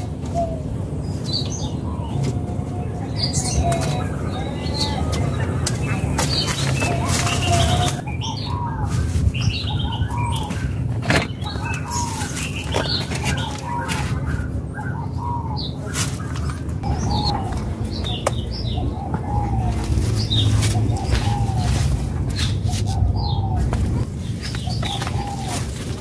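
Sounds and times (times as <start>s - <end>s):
birds calling: 0.0s - 26.0s
steady low rumble: 0.0s - 26.0s.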